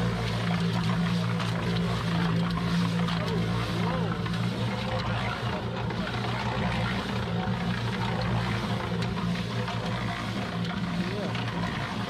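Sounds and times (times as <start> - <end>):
concrete mixer running: 0.0 - 12.0.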